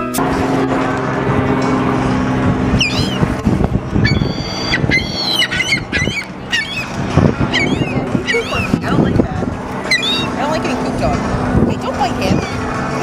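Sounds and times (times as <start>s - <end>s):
gulls calling: 2.3s - 13.0s.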